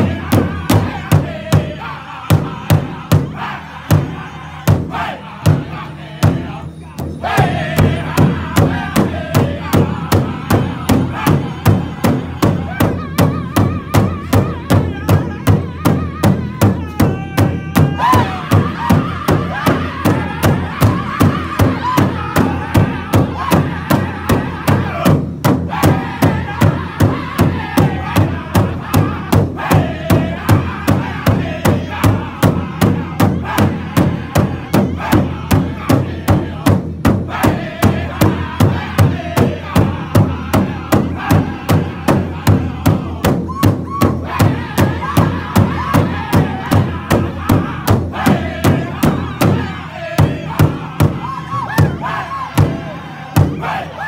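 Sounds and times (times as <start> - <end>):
large drum beating: 0.0 - 54.0
men singing loudly: 0.0 - 54.0.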